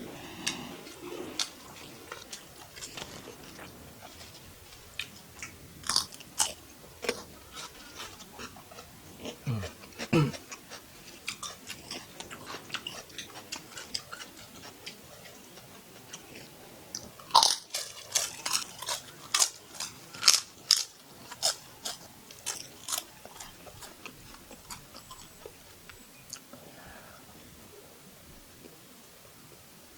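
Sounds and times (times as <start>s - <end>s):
wet chewing and mouth smacks: 0.3s - 26.6s.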